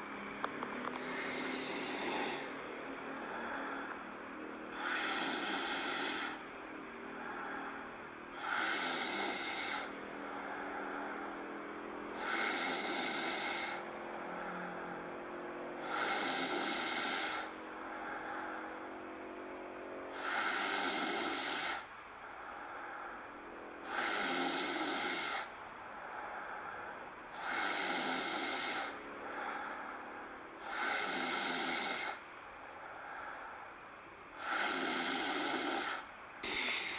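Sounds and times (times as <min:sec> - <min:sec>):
cat snoring: 0:00.8 - 0:33.3, 0:34.3 - 0:36.9.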